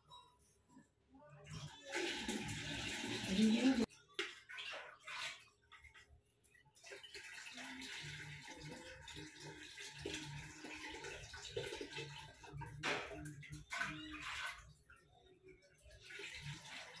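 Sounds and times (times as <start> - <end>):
liquid trickling into a pot: 1.5 - 17.0.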